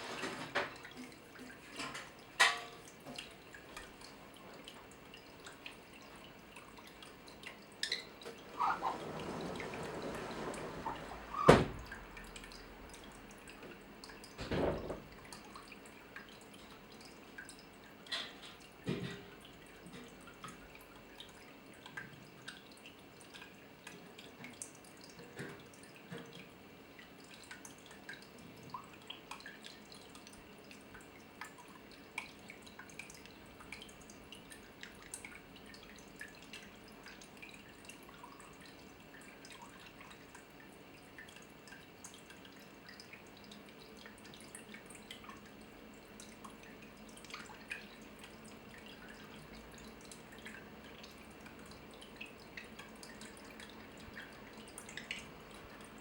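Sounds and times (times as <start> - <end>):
faint steady background noise: 0.0 - 56.0
water dripping: 0.6 - 9.0, 11.3 - 56.0.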